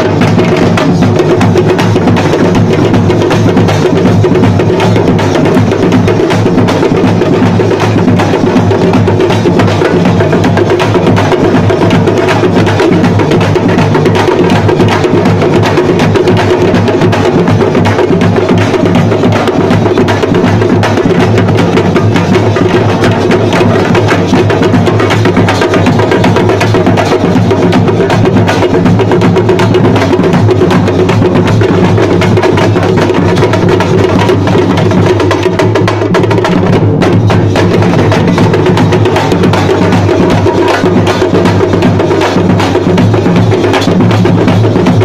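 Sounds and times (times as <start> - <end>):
frame drums beaten with sticks: 0.0 - 45.0.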